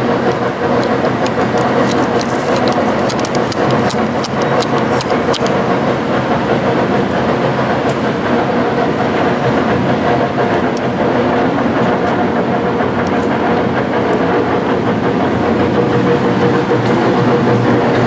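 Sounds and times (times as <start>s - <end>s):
lathe running: 0.0s - 18.0s.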